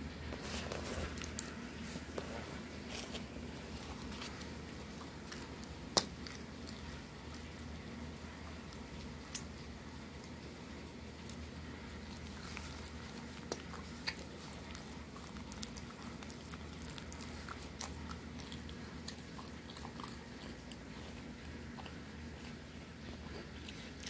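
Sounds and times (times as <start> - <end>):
faint steady low hum: 0.0 - 24.0
person chewing crusty bread: 0.4 - 24.0.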